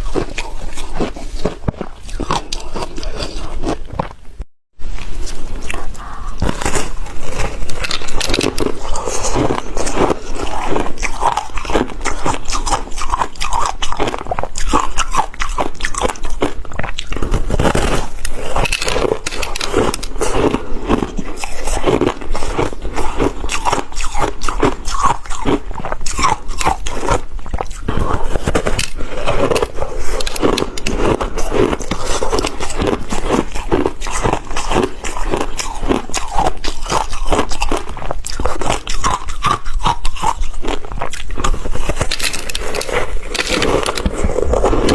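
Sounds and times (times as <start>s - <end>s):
crunching ice close up: 5.8s - 44.9s.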